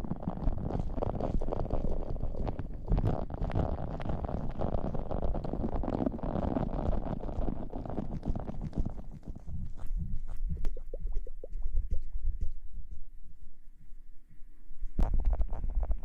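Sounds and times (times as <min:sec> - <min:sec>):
rubbing against a microphone: 0:00.0 - 0:13.4, 0:14.8 - 0:16.0.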